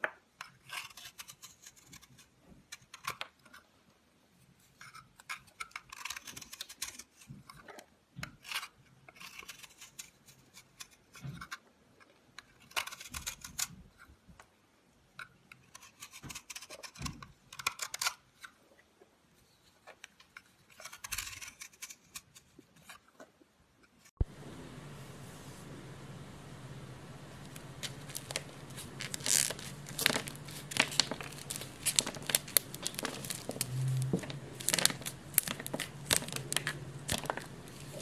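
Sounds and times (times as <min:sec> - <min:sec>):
knife shaving soap: 0:00.0 - 0:03.7, 0:04.5 - 0:14.2, 0:15.2 - 0:18.6, 0:19.6 - 0:23.2, 0:27.4 - 0:38.0.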